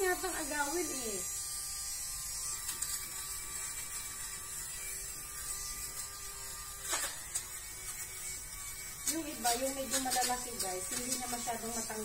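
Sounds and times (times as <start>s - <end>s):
lint remover motor humming: 0.0s - 12.0s.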